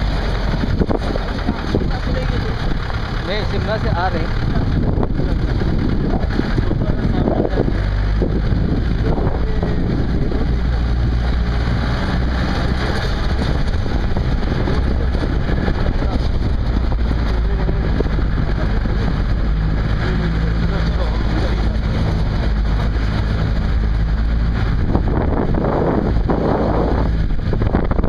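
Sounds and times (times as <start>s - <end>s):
rough road noise: 0.0s - 28.0s
vehicle engine running: 0.0s - 28.0s.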